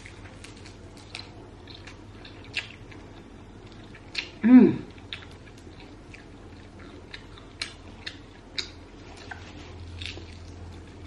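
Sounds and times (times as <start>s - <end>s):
low steady hum: 0.0s - 11.0s
person chewing food: 0.0s - 11.0s.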